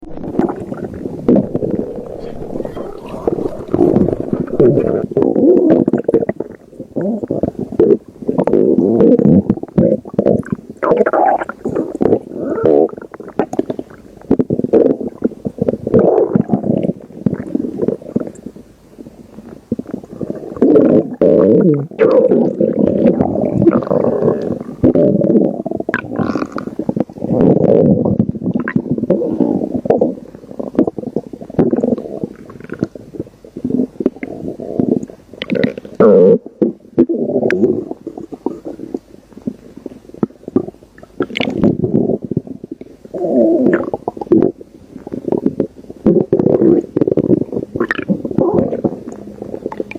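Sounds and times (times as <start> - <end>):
stomach growling and gurgling: 0.0 - 49.9.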